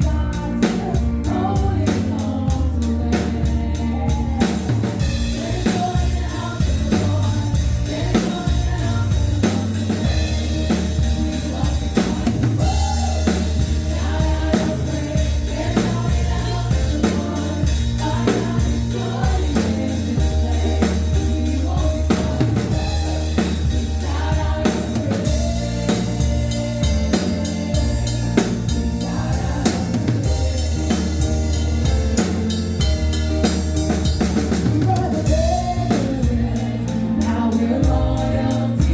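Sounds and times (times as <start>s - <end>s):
drum kit beat: 0.0s - 38.9s
gospel singing: 0.0s - 38.9s
heavy bass line: 0.0s - 38.9s.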